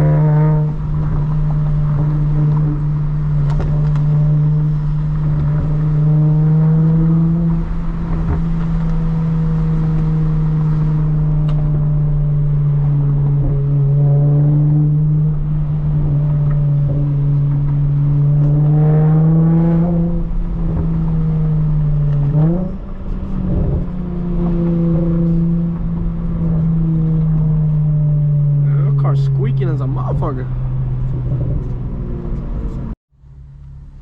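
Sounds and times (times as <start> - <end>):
car engine low drone: 0.0 - 34.0.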